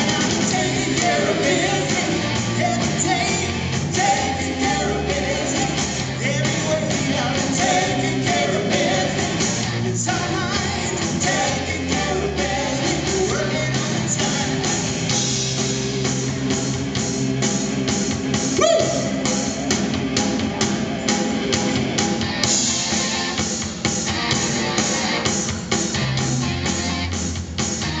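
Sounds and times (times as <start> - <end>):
bass guitar: 0.0 - 28.0
drum kit beat: 0.0 - 28.0
electric guitars: 0.0 - 28.0.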